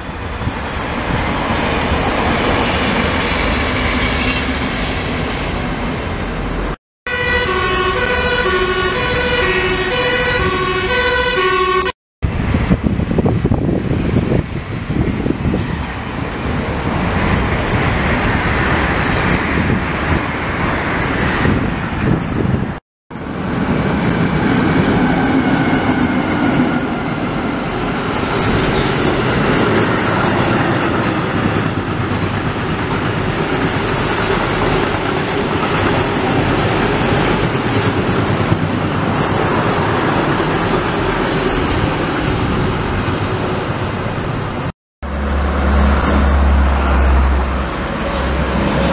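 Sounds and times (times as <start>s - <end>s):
freight train wheels on rails: 0.0s - 6.8s, 8.0s - 48.9s
electric passenger train passing: 0.0s - 48.9s.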